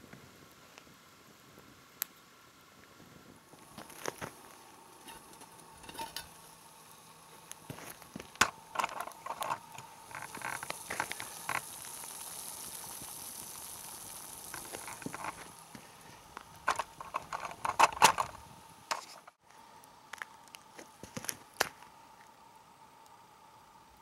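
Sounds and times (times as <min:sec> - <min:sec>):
twig fire crackling and hissing: 0:00.0 - 0:24.0.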